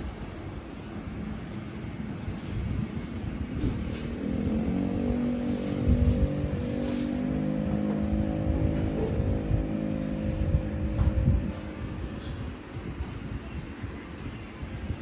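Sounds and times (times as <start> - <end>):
engine running steadily: 0.0 - 15.0
wind gusting on microphone: 0.0 - 15.0.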